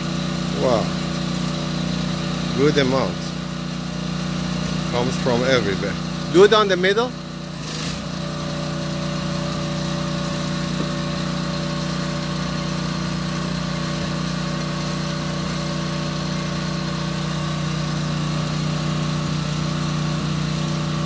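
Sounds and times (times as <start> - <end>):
small engine running steadily: 0.0 - 21.0.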